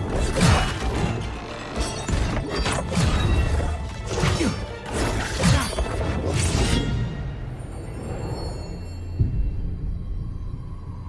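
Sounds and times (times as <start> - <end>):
dramatic film score: 0.0 - 11.0.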